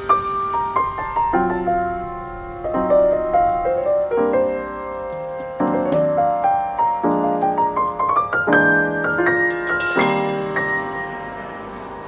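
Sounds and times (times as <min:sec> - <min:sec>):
piano chords: 0:00.0 - 0:12.0
piano melody of single notes: 0:00.0 - 0:12.0.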